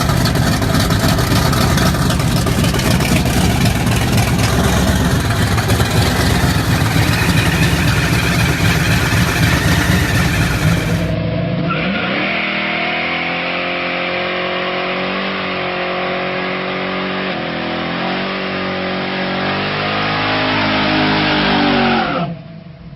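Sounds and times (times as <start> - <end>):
car engine wavering at high revs: 0.0 - 22.3
car engine at high revs: 0.0 - 22.4.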